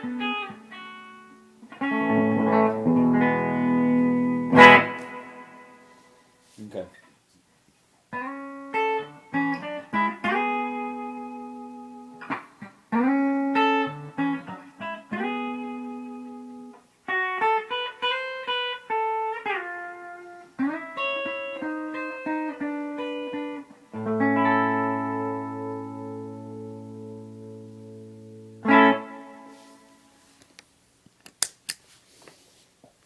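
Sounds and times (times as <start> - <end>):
clean electric guitar: 0.0 - 6.2, 8.1 - 30.2.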